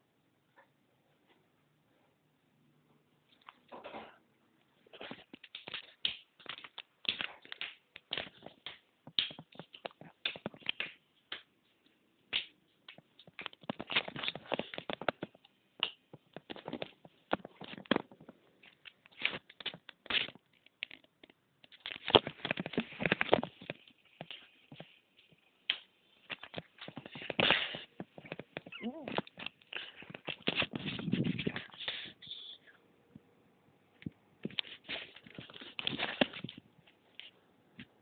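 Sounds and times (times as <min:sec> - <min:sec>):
taps clicks and scuffs: 0:04.9 - 0:32.0, 0:34.0 - 0:38.0.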